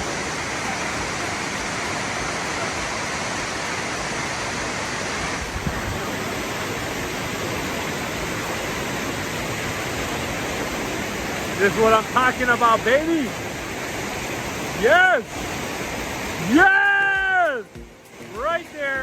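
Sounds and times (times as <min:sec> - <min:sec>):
waterfall cascading over rocks: 0:00.0 - 0:19.0.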